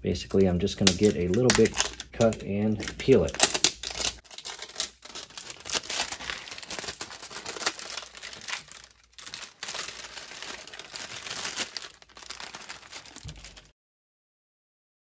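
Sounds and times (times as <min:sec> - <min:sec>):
plastic wrap crinkling and tearing: 0:00.2 - 0:13.7.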